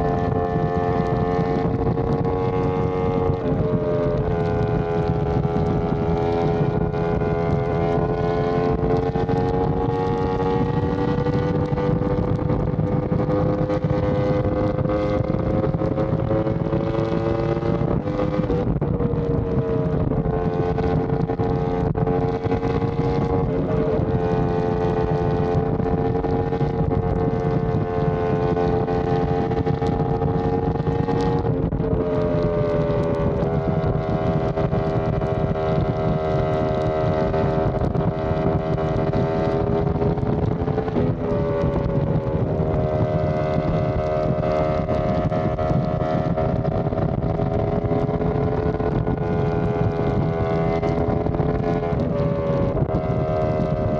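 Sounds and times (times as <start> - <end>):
motorcycle engine at speed: 0.0 - 53.9
wind noise on microphone: 0.0 - 53.9.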